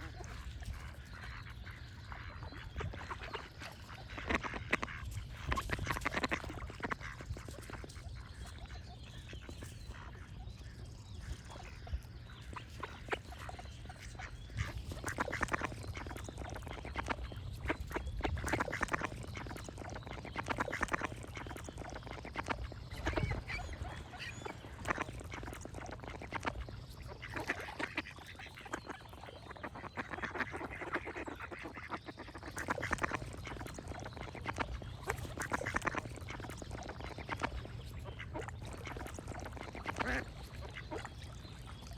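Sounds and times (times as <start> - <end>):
birds singing: 0.0 - 41.9
ducks quacking: 0.0 - 41.9.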